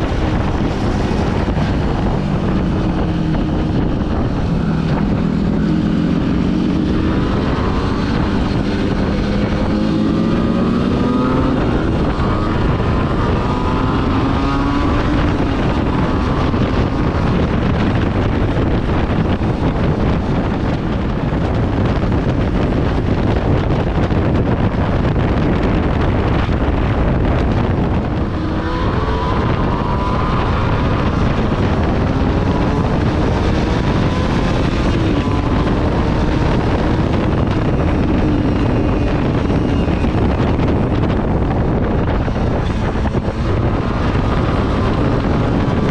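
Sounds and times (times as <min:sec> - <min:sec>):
motorcycle engine shifting gears: 0:00.0 - 0:45.9
wind noise on microphone: 0:00.0 - 0:45.9.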